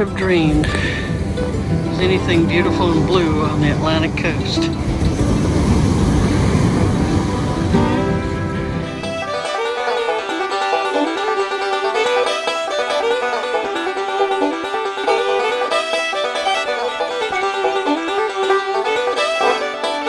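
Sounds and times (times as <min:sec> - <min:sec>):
plucked-string instrumental tune: 0:00.0 - 0:20.0.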